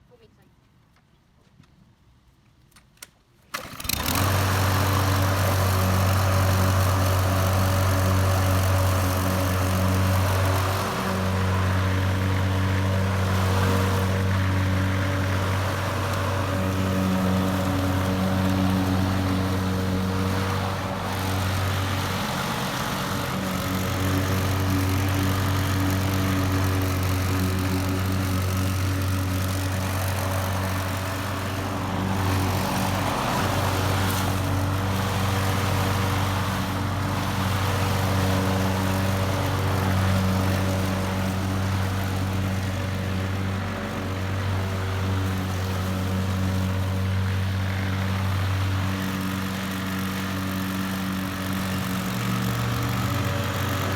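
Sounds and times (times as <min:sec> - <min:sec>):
lawn mower engine running: 0:03.5 - 0:53.9.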